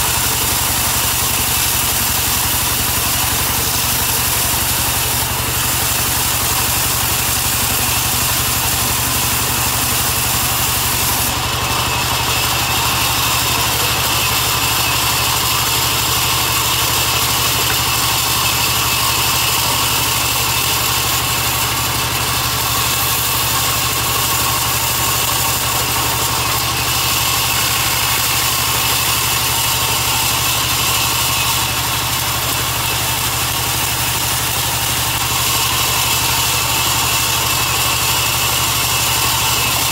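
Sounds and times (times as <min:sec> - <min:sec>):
band saw drive hum: 0:00.0 - 0:39.9
saw blade hissing through log: 0:00.0 - 0:39.9.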